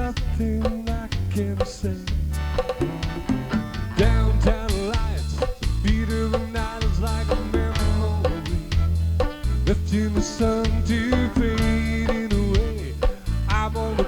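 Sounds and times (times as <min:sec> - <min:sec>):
bass and guitar: 0:00.0 - 0:14.0
drum kit beat: 0:00.0 - 0:14.0.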